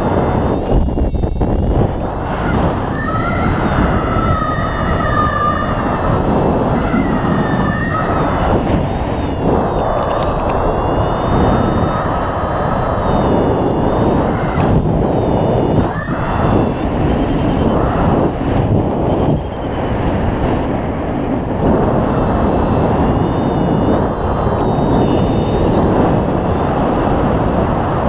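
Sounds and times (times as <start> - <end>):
wavering high tone: 0.0 - 17.9, 19.0 - 20.0, 22.1 - 27.0
wind rushing over microphone: 0.0 - 28.0.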